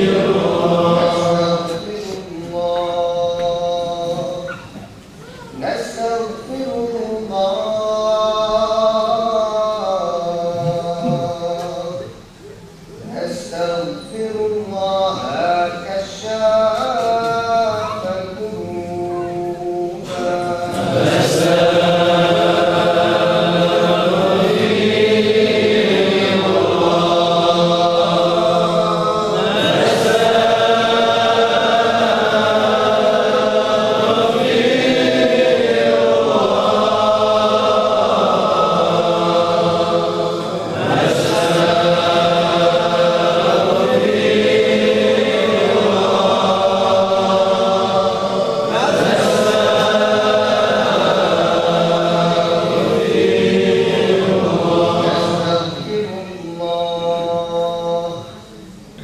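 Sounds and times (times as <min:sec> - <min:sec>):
men chanting in unison: 0:00.0 - 0:04.6, 0:05.6 - 0:12.1, 0:13.0 - 0:58.3.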